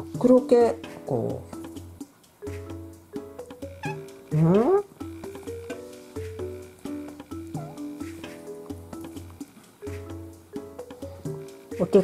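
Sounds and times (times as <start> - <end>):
light background music melody: 0.0 - 12.0.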